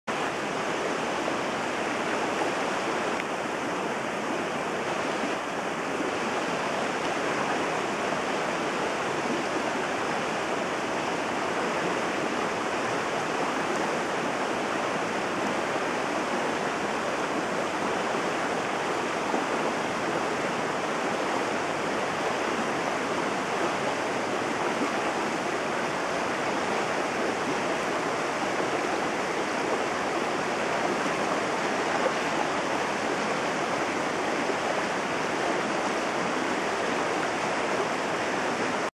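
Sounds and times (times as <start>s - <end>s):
river rushing over rocks: 0.1s - 38.9s.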